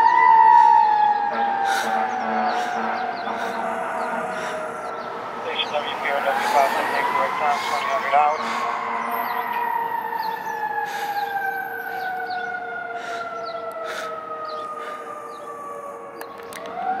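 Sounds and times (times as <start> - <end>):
fire engine siren: 0.0 - 17.0.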